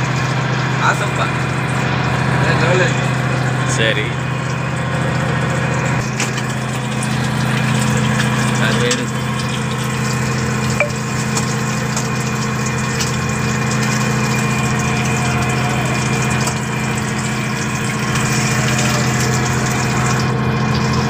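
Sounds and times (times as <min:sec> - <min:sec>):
boat engine humming: 0:00.0 - 0:21.0
fish deep-frying in oil: 0:00.0 - 0:21.0.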